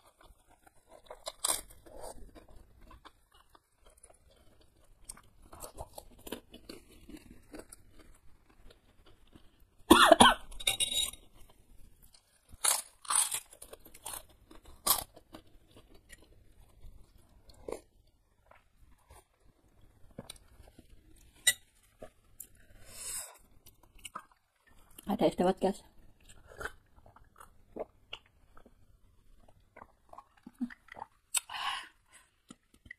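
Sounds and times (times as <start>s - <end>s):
crackers crunching: 0.0s - 25.0s, 26.0s - 31.5s
quiet chewing: 0.0s - 25.1s, 25.8s - 32.9s.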